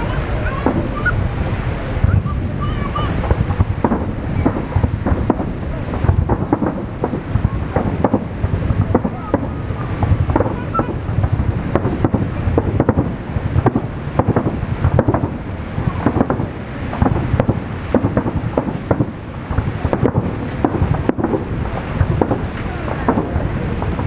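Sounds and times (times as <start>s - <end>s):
continuous low rumble: 0.0s - 24.0s
fireworks bursts: 0.0s - 24.0s.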